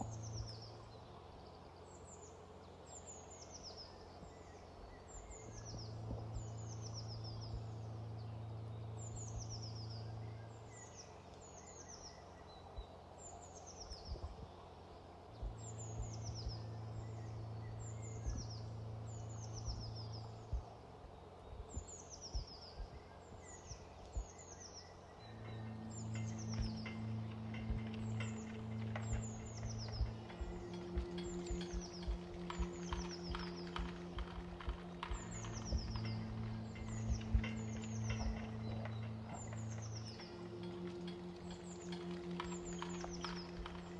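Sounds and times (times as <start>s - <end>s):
low steady hum: 0.0s - 43.9s
songbird singing: 0.0s - 43.9s.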